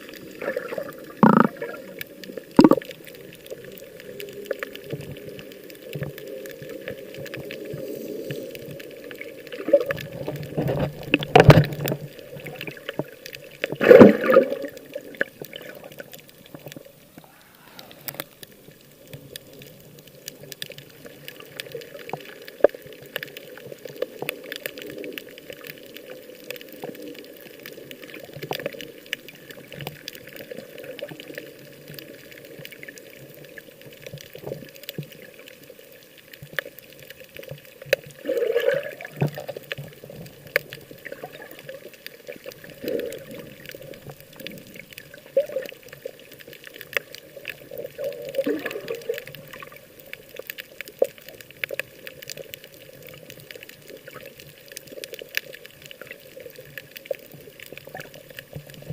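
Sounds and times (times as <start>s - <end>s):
sea water sloshing and bubbling: 0.0s - 58.9s
small splashes crackling: 0.0s - 58.9s.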